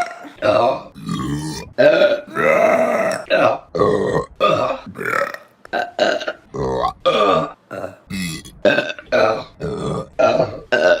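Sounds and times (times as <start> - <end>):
woman burping: 0.0 - 11.0.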